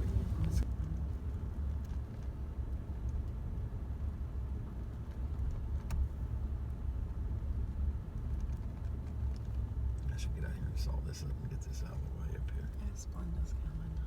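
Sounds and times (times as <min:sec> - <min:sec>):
car engine rumble from inside: 0:00.0 - 0:14.0.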